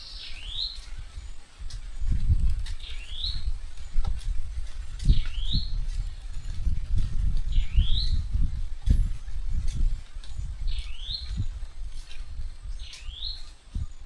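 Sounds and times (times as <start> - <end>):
low rumble with thumps: 1.9 - 14.0.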